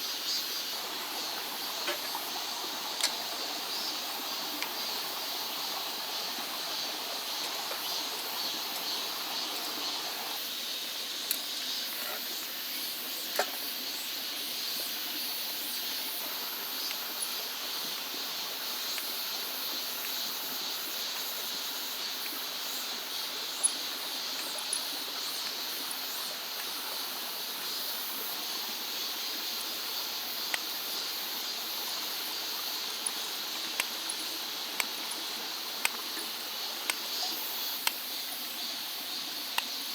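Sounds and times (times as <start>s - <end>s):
insects humming: 0.0s - 39.9s
mountain stream rushing: 0.0s - 39.9s.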